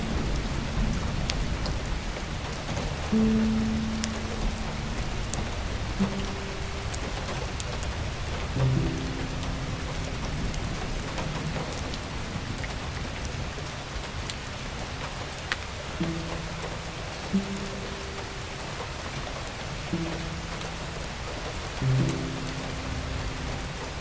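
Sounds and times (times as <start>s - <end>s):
soft background music: 0.0s - 12.8s, 13.7s - 24.0s.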